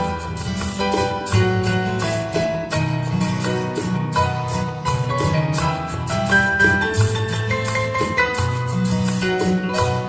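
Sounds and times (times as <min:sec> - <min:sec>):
plucked guitar-like notes: 0:00.0 - 0:10.0
steady bass: 0:00.0 - 0:10.0.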